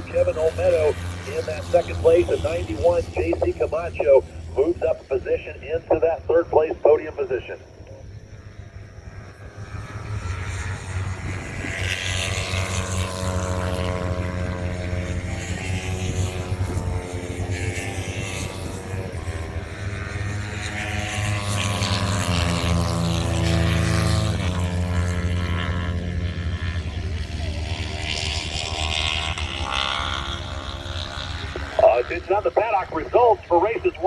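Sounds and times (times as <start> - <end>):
racing motorcycle engines revving: 0.0 - 34.0.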